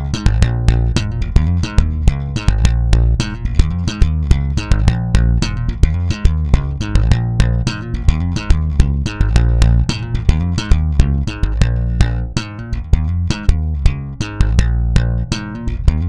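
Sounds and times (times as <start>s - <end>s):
slap bass groove: 0.0s - 16.0s.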